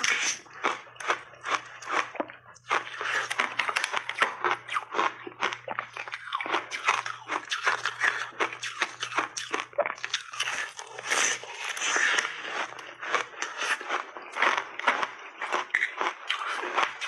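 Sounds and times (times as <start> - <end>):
ice block crunching in mouth: 0.0 - 17.0.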